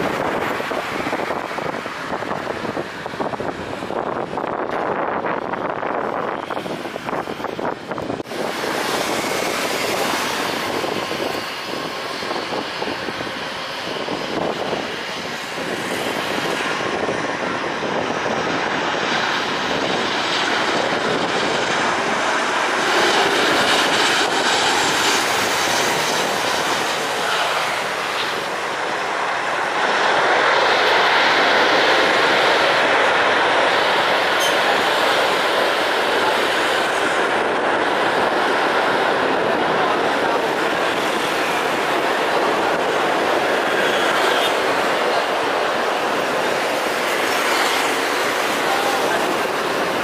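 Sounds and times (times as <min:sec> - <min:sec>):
jet engines roaring: 0:00.0 - 0:50.0.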